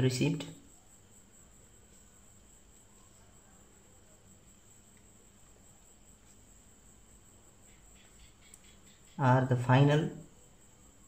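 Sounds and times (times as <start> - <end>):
faint high-pitched hiss: 0.0 - 11.0.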